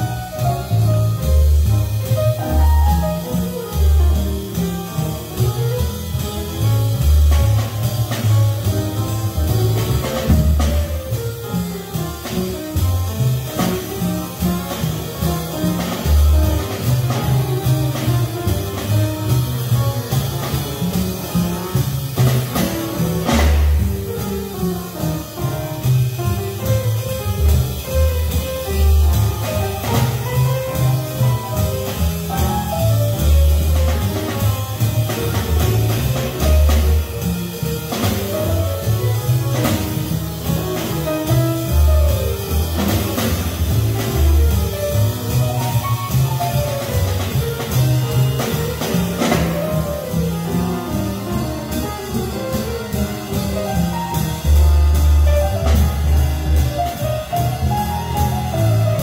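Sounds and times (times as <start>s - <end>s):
double bass: 0.0s - 59.0s
drum kit: 0.0s - 59.0s
grand piano: 0.0s - 59.0s.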